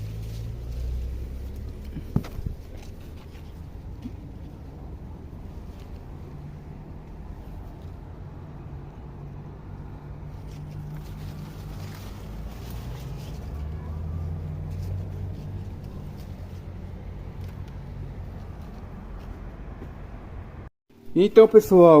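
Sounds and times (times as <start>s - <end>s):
vehicle engine humming: 0.0s - 21.1s.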